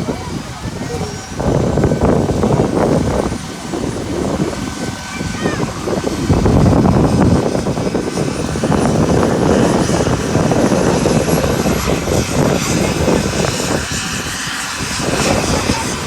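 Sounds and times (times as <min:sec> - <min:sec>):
helicopter rotor and turbine: 0:00.0 - 0:16.0
wind buffeting microphone: 0:00.0 - 0:16.0.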